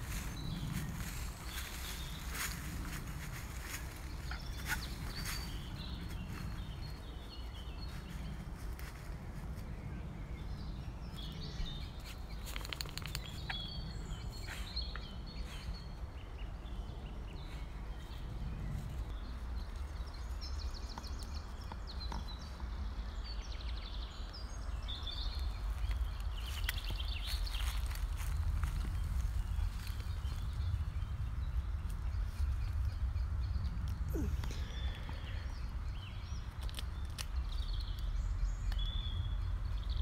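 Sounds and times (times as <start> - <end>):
birds trilling and chirping: 0.0 - 40.0.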